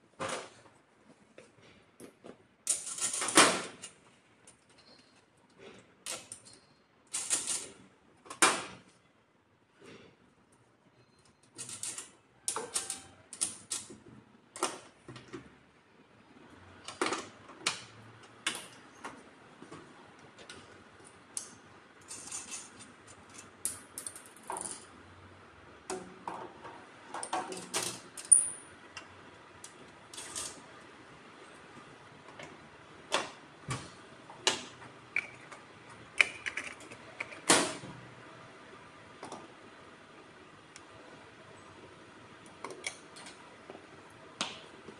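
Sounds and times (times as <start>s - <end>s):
faint steady background noise: 0.0s - 44.9s.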